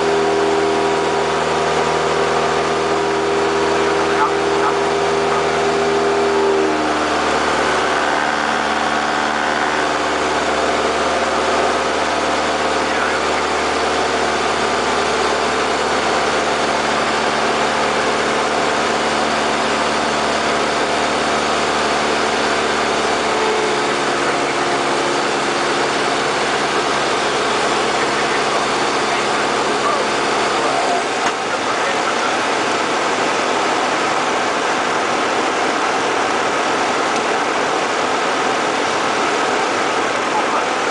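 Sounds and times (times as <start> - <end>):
airplane engine and propeller: 0.0 - 40.9.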